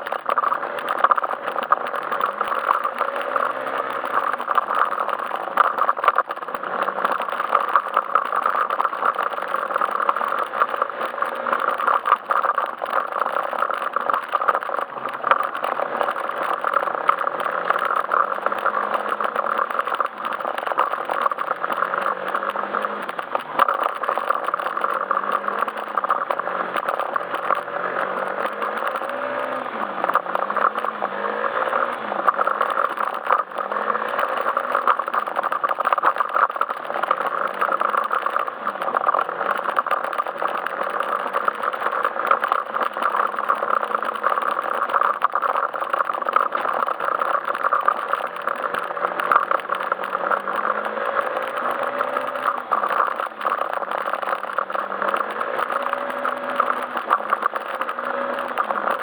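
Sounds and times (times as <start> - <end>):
rattling and road noise: 0.0 - 59.0
scooter engine running: 0.0 - 59.0.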